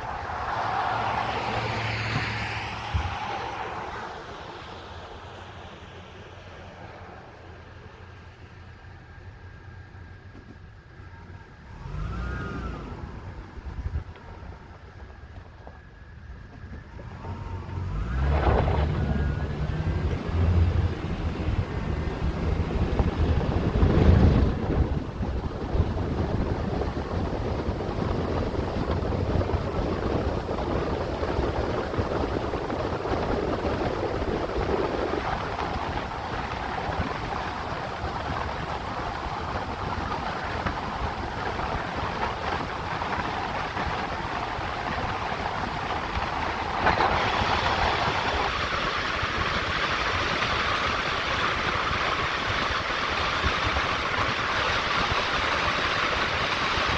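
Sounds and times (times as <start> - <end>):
car road and wind noise: 0.0 - 56.9.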